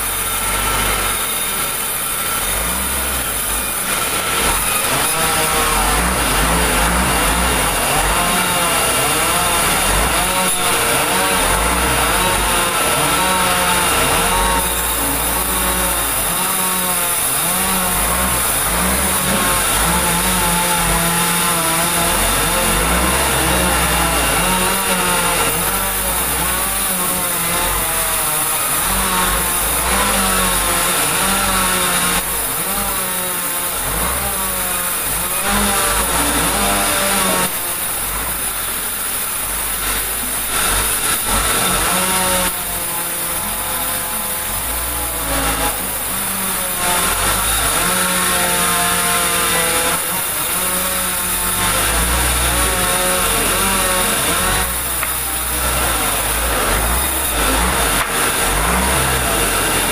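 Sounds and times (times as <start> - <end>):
band saw blade whining through log: 0.0 - 59.9.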